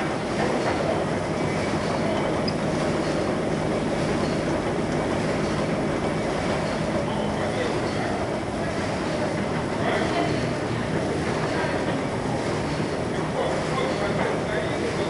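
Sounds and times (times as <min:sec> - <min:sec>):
printing machine running: 0:00.0 - 0:15.0.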